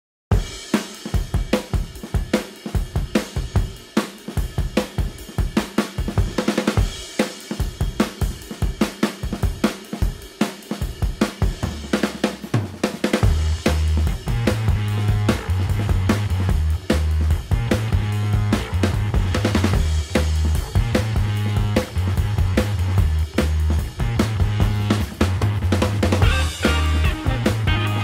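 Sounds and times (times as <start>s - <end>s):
music with drum beat: 0.3s - 28.0s.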